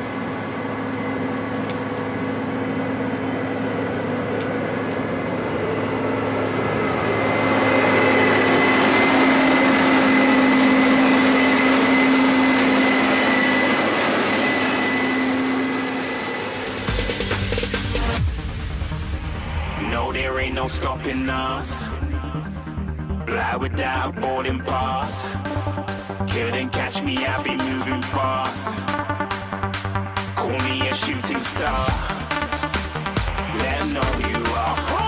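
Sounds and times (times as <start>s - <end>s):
diesel farm machine running: 0.0s - 35.0s.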